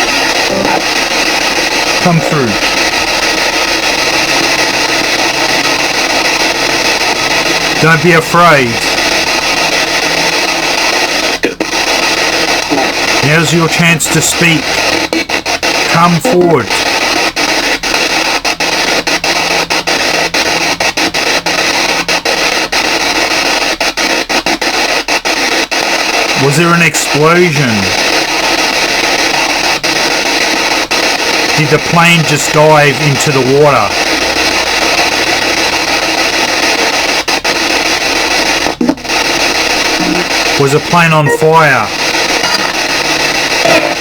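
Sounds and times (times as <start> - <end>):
radio static hiss: 0.0 - 44.0.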